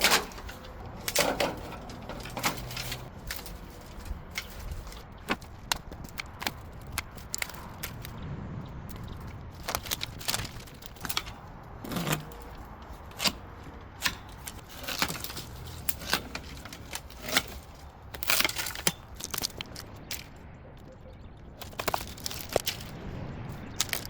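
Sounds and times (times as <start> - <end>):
dry branches cracking: 0.0 - 24.0.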